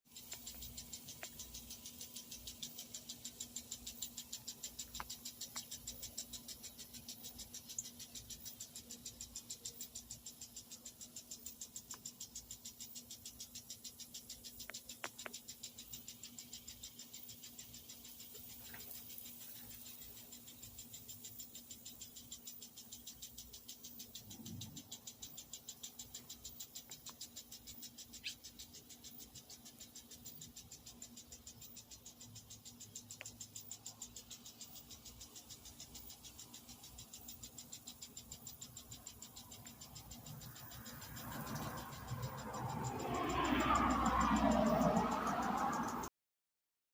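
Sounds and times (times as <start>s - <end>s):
lawn sprinkler water pattering: 0.1s - 46.0s.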